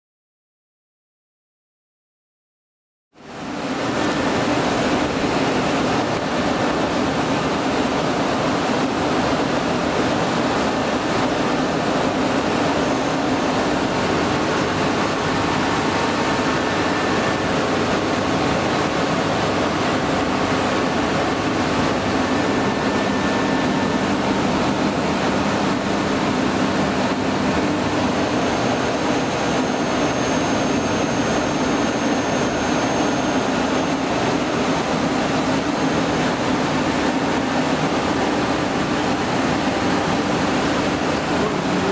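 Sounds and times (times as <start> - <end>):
machine spindle humming: 3.9 - 41.9.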